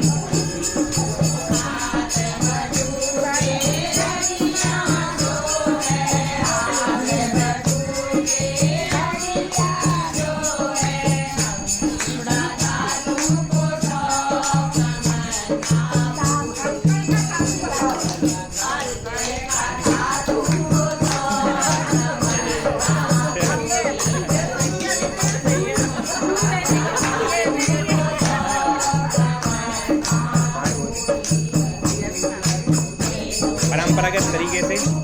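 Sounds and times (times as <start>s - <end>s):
tambourine jingles: 0.0s - 35.0s.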